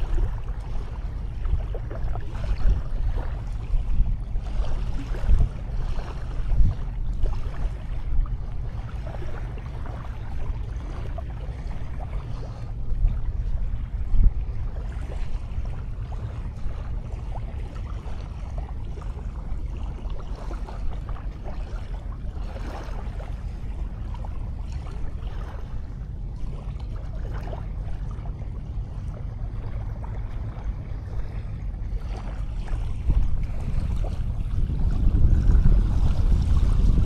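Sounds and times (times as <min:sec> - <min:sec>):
sea waves washing on beach: 0:00.0 - 0:37.0
wind rumble on microphone: 0:00.0 - 0:37.0.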